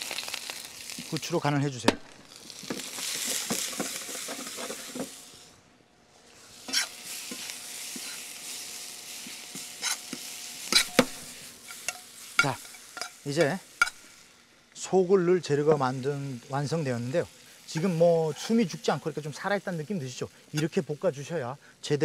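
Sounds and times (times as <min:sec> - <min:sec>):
vegetables sizzling in pan: 0:00.0 - 0:22.0.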